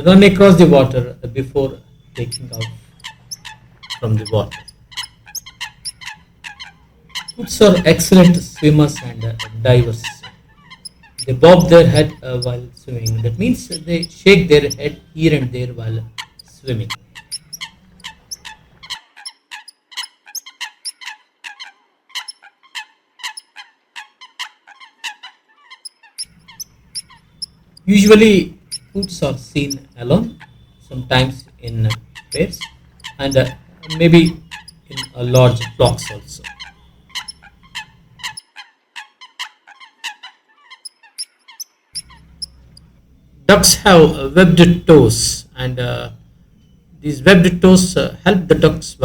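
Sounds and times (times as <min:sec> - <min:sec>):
coots calling: 0:00.0 - 0:49.0.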